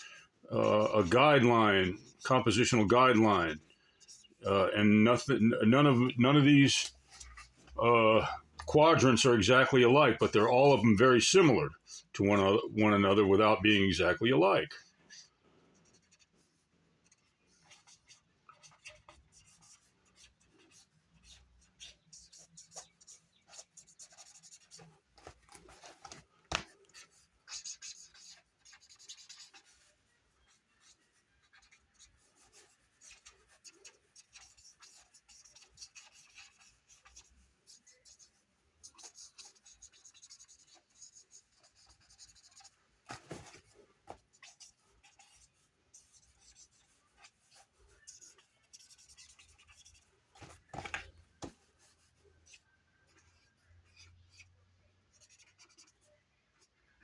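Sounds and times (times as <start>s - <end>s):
pen scratching on paper: 0.0s - 11.1s, 14.8s - 54.5s, 55.1s - 56.7s.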